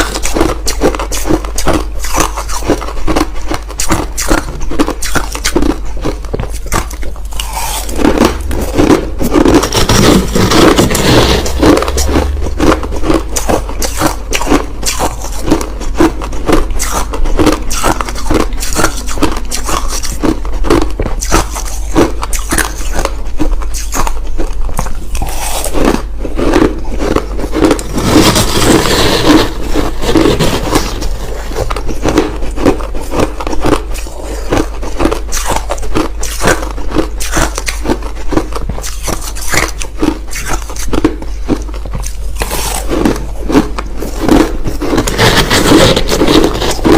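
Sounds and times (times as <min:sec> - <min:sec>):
chewing crushed ice: 0:00.0 - 0:46.9.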